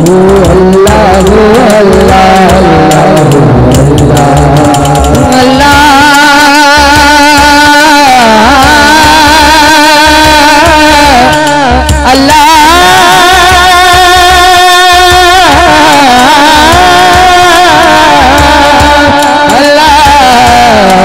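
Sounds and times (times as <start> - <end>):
man singing through microphone: 0.0 - 21.0.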